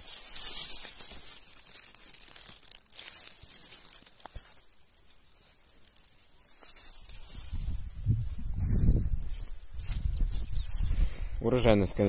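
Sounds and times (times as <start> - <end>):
dry stems rustling and crackling: 0.0 - 12.0.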